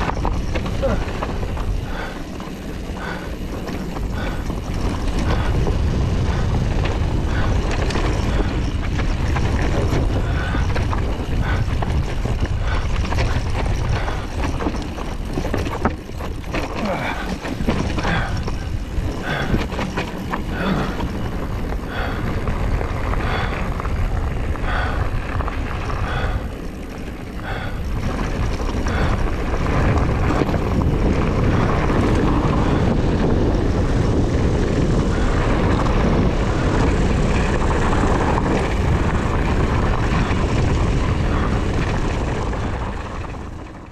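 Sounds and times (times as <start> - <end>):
bike rattling over bumps: 0.0 - 43.9
bike tyre noise: 0.0 - 43.9
wind rushing over microphone: 0.0 - 43.9.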